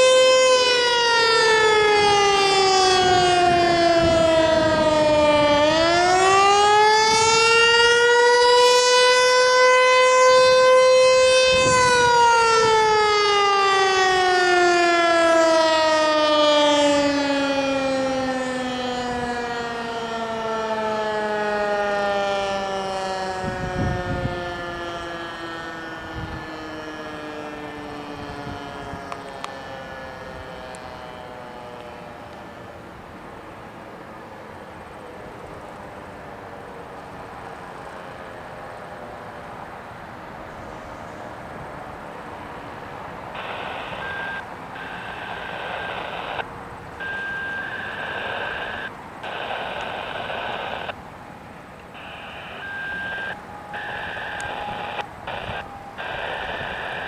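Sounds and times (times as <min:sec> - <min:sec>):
warning siren winding down: 0:00.0 - 0:32.7, 0:43.2 - 0:57.0.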